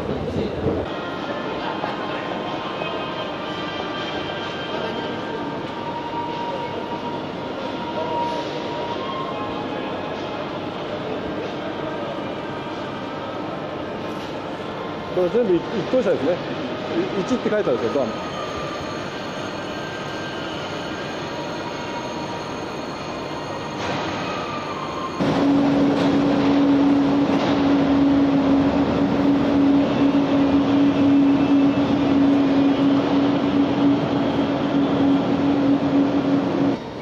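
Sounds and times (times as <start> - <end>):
station platform noise: 0.0 - 37.0
train electric hum: 0.0 - 37.0.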